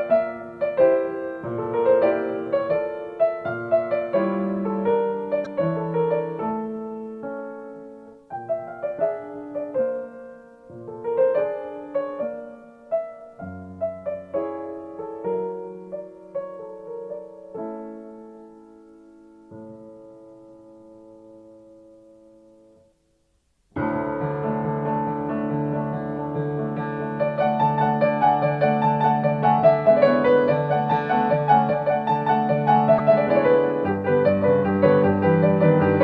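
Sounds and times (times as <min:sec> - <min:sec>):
piano music: 0:00.0 - 0:22.8, 0:23.8 - 0:36.0.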